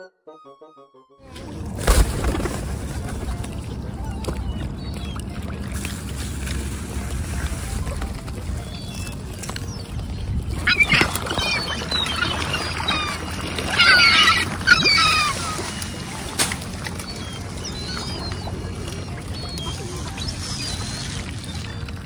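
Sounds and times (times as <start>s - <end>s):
gulls and ducks squawking: 0.0s - 22.0s.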